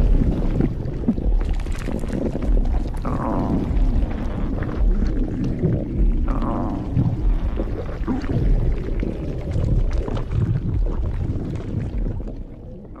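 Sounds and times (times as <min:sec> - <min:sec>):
stomach gurgling: 0:00.0 - 0:13.0.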